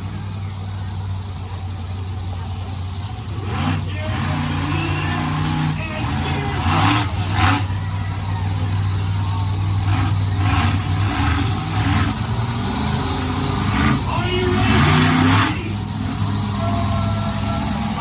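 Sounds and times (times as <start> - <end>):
monster truck engine surging: 0.0 - 18.0.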